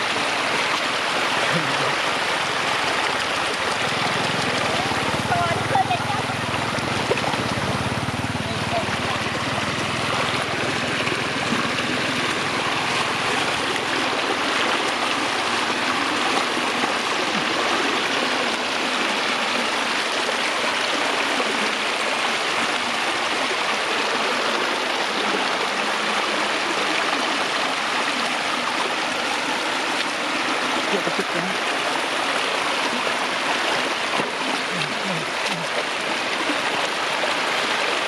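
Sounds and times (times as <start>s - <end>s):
floodwater flowing: 0.0s - 38.0s.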